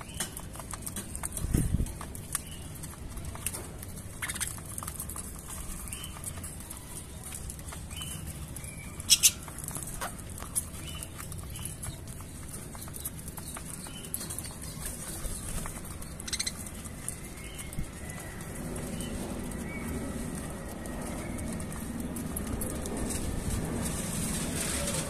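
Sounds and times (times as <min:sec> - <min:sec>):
birds pecking seed in plastic bowl: 0:00.0 - 0:25.0.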